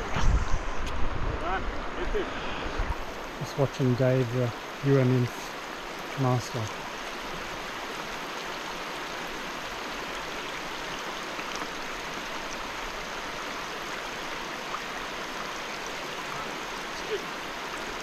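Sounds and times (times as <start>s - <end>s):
water rushing over stones: 0.0s - 18.0s.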